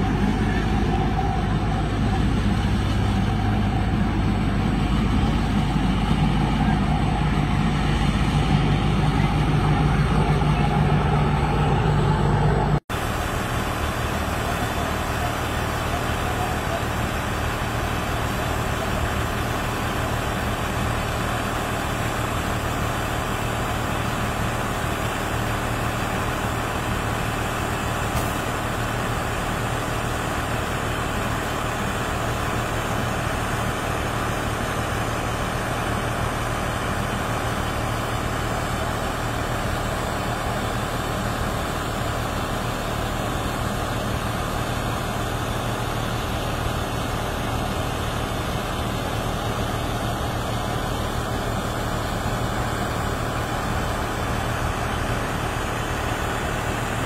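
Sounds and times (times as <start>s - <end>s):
combine harvester engine and threshing: 0.0s - 57.0s.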